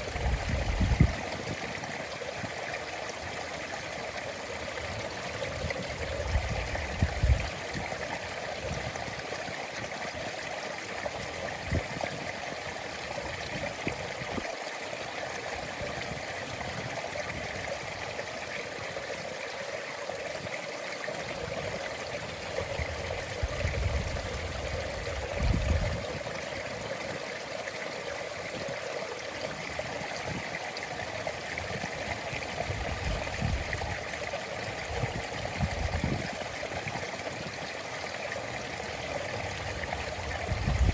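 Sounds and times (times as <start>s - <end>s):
stream water running and trickling: 0.0s - 40.9s.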